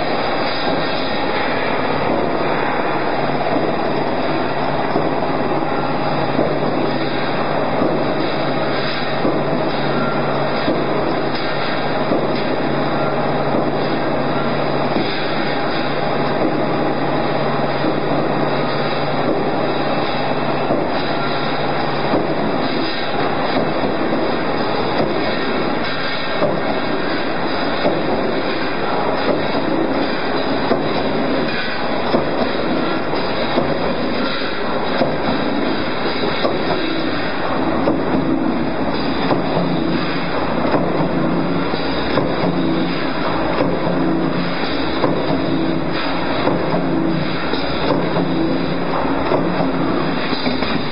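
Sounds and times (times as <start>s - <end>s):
roll forming machine din: 0.0s - 50.9s.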